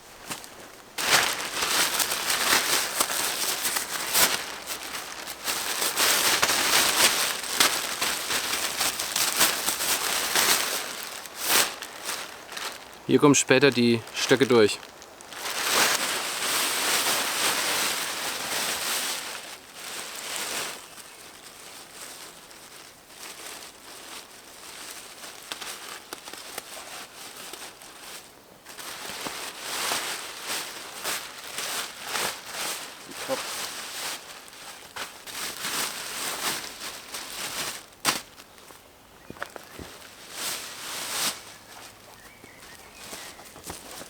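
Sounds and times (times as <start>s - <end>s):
plastic bags crinkling: 0.0s - 44.0s.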